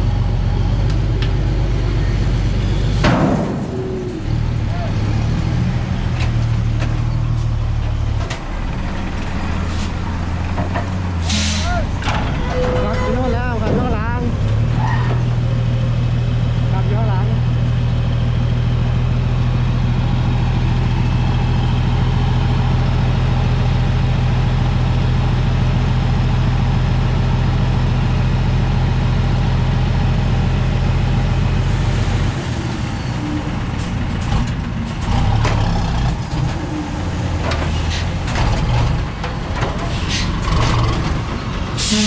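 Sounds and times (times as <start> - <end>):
diesel truck engine droning: 0.0 - 42.0.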